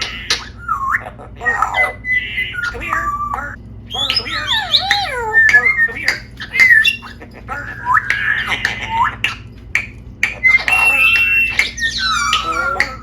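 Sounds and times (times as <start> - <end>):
parrot squawk: 0.0 - 9.5, 10.2 - 13.0
parrot calls and whistles: 0.0 - 13.0.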